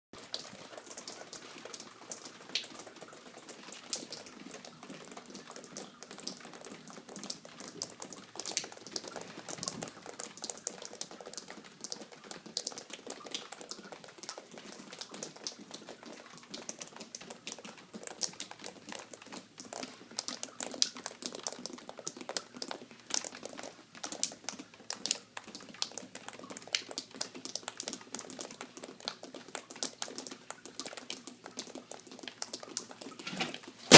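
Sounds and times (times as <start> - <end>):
water dripping and pattering: 0.2 - 33.9.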